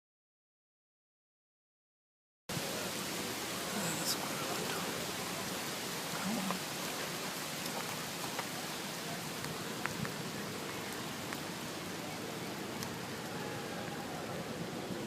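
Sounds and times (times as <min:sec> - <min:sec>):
outdoor background hiss: 0:02.5 - 0:15.0.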